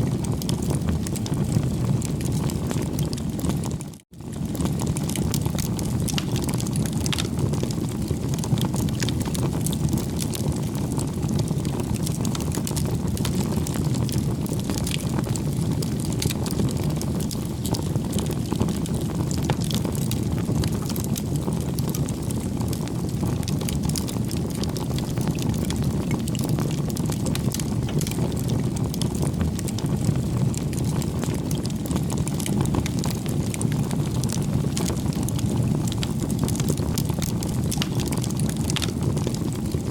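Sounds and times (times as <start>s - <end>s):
campfire rumble: 0.0s - 39.9s
fire crackles and pops: 0.0s - 39.9s.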